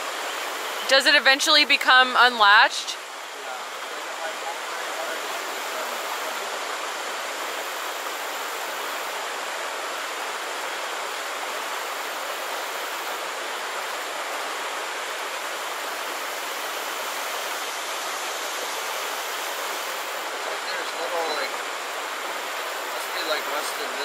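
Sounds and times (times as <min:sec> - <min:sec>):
stream water running over rocks: 0:00.0 - 0:24.0.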